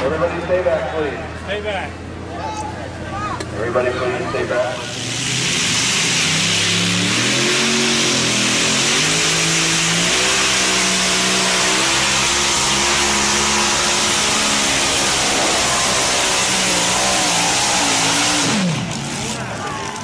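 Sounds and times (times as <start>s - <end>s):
tractor engine revving: 3.5s - 20.0s.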